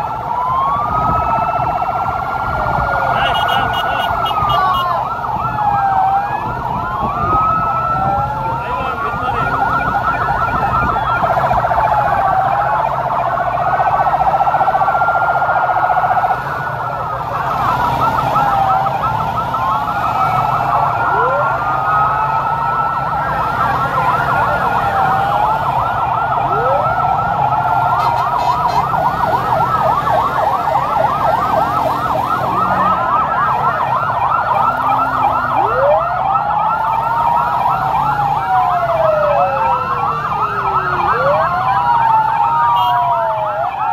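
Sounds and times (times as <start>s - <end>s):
engines rumbling: 0.0s - 43.9s
vehicle sirens wailing and yelping: 0.0s - 43.9s.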